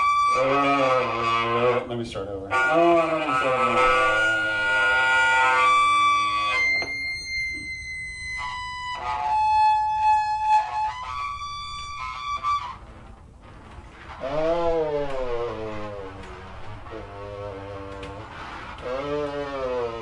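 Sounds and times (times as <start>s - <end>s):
buzzing noise music tones: 0.0s - 20.0s.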